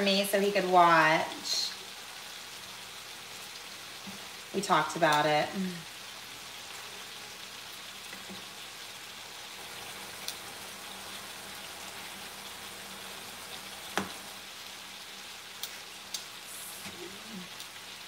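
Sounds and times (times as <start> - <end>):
meat sizzling in a hot pan: 0.0 - 18.0.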